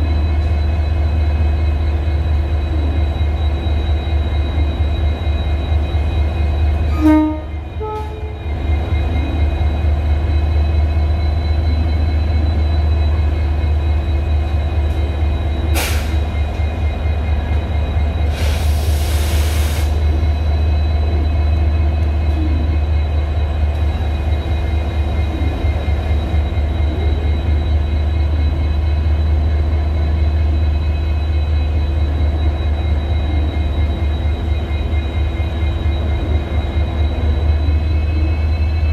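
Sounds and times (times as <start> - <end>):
diesel locomotives idling: 0.0 - 38.9.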